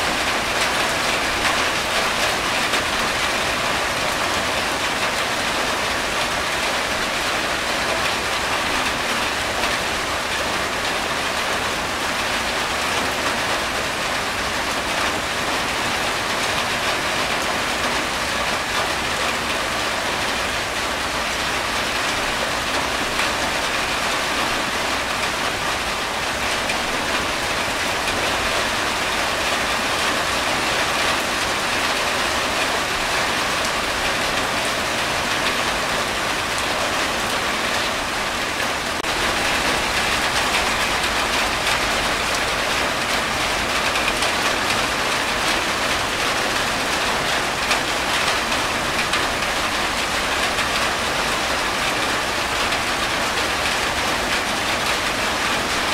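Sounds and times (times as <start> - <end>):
rain on a tin roof: 0.0 - 55.9
water running off roof: 0.0 - 55.9.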